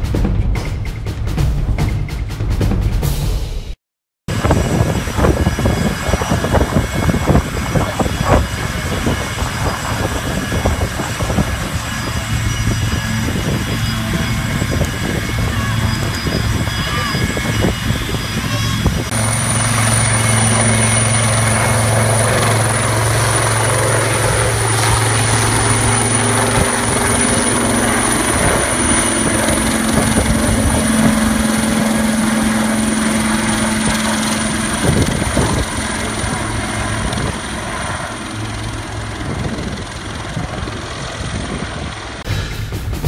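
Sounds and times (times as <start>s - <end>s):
helicopter rotors and engines: 4.3s - 43.0s.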